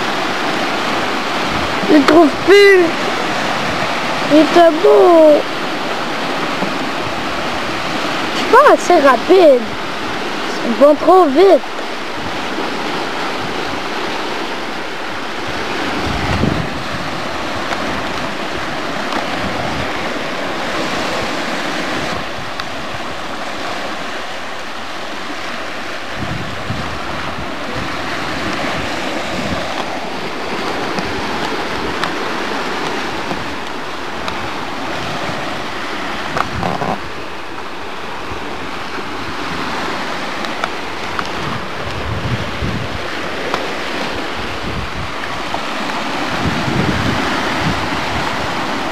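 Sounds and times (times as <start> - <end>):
waves washing against rocks: 0.0 - 48.9
wind buffeting microphone: 0.0 - 48.9.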